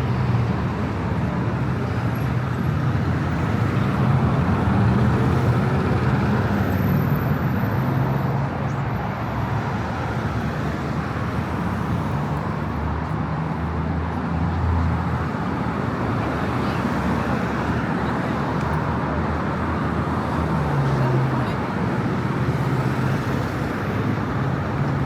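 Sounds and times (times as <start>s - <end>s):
city road traffic: 0.0s - 25.0s.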